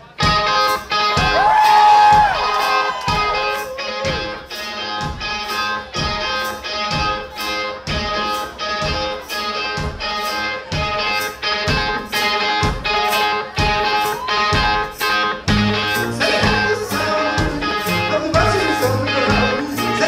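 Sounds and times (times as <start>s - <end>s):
bass notes: 0.0s - 20.0s
drum beat: 0.0s - 20.0s
electric guitar: 0.0s - 20.0s.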